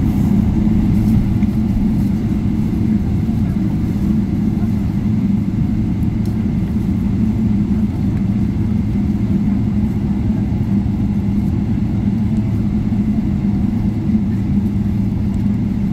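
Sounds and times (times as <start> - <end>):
aircraft cabin rumble and hum: 0.0 - 15.9.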